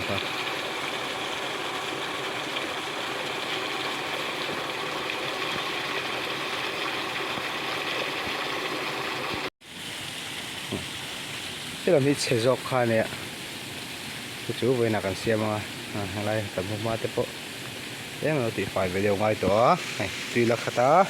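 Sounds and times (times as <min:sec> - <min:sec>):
water gushing: 0:00.0 - 0:21.0.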